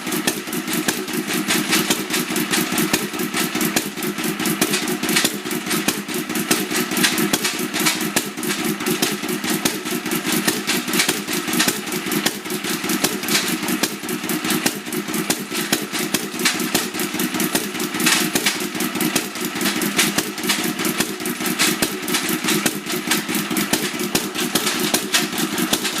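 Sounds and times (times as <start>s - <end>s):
engine clattering: 0.0s - 26.0s.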